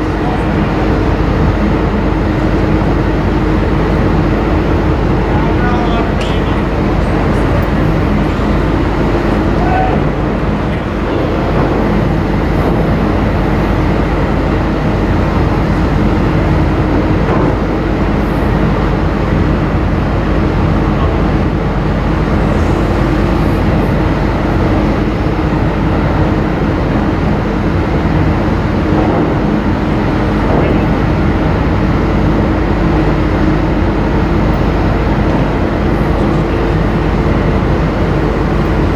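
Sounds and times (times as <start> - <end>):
ship engines droning: 0.0 - 38.9.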